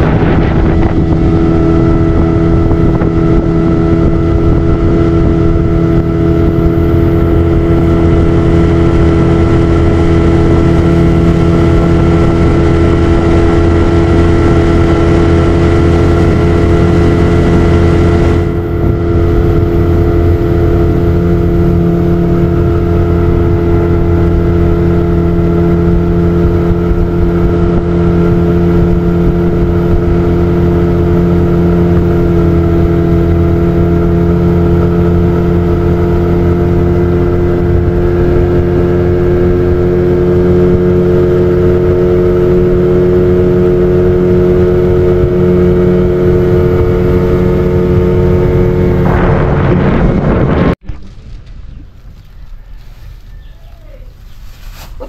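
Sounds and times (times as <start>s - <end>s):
outboard motor droning: 0.0s - 50.8s.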